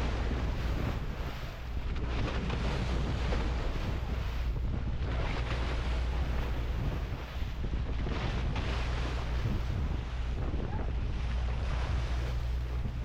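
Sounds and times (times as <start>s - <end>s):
boat engine humming: 0.0s - 13.0s
sea water washing: 0.0s - 13.0s
wind buffeting the microphone: 0.0s - 13.0s.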